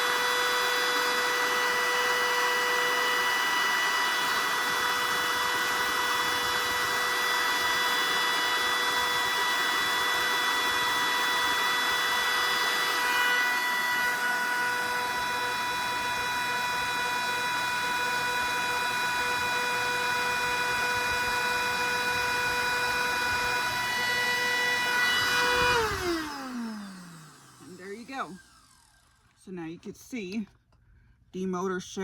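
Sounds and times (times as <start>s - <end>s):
vacuum motor whining: 0.0s - 29.4s.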